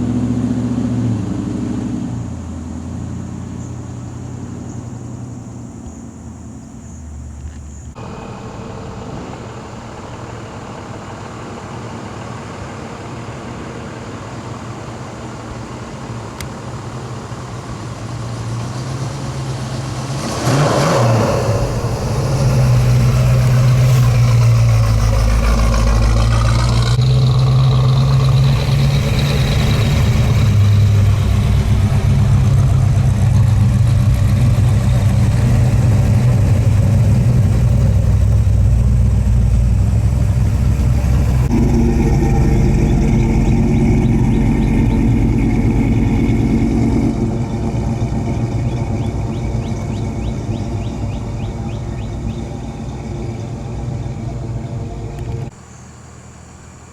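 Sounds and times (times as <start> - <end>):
car engine rumble: 0.0 - 56.9.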